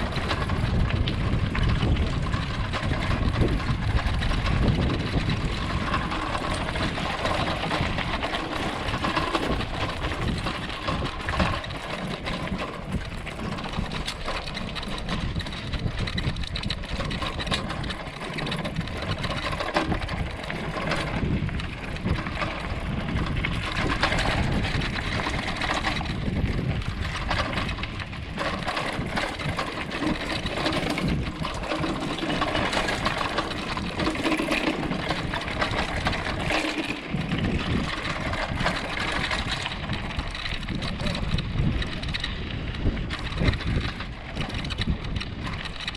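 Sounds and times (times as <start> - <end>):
bicycle rattling over rough ground: 0.0 - 45.9.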